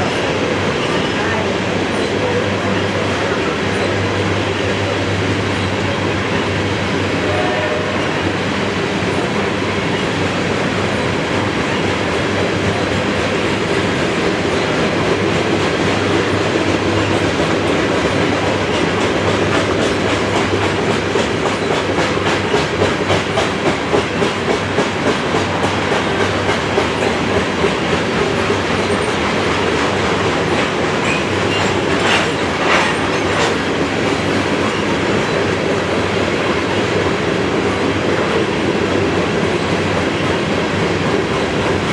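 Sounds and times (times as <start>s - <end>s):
clickety-clack of train wheels: 0.0s - 41.9s
train wheel and rail noise: 0.0s - 41.9s.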